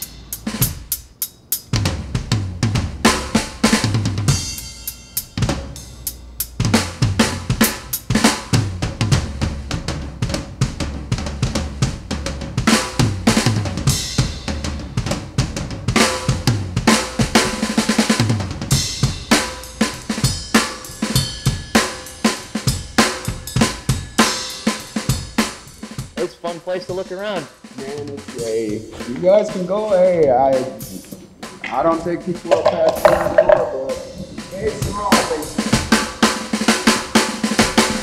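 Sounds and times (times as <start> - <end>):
drum kit beat: 0.0 - 38.0.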